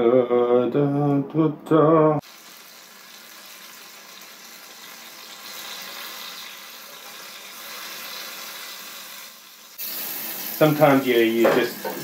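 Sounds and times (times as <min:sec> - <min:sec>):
pancakes sizzling in pan: 0:02.2 - 0:12.0.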